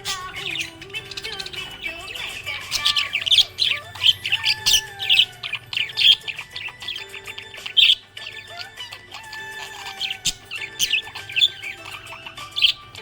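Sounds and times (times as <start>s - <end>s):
budgerigar chirping: 0.0s - 13.0s.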